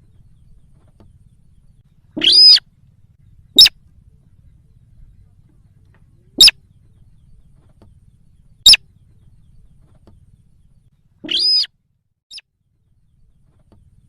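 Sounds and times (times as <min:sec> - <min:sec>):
crake bird calls: 0:00.0 - 0:11.7
faint low hum: 0:00.0 - 0:14.0.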